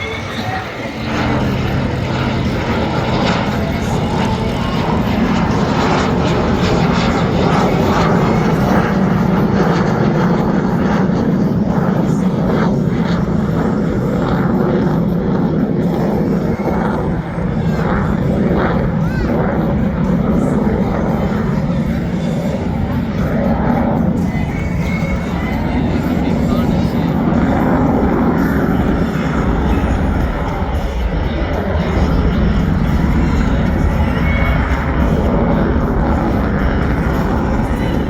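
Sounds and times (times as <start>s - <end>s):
jet engine rumble: 0.0s - 38.0s.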